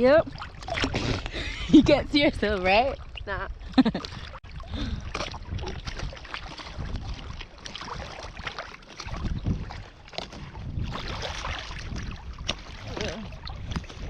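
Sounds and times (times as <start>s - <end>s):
water lapping and splashing: 0.0s - 14.0s
wind buffeting microphone: 0.0s - 14.0s.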